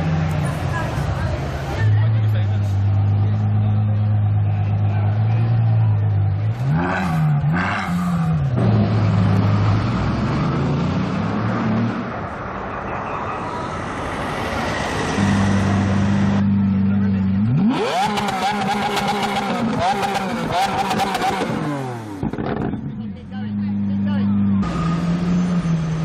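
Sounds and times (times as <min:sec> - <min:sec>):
car engine idling and revving: 0:00.0 - 0:26.0
street traffic: 0:00.0 - 0:26.0.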